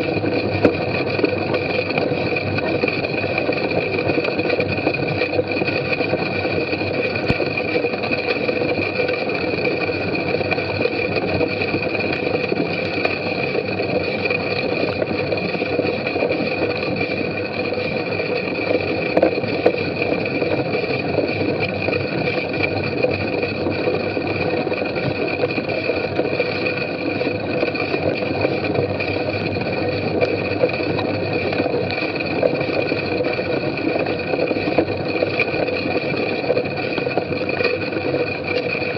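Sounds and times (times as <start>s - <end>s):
constant two-tone hum: 0.0s - 38.9s.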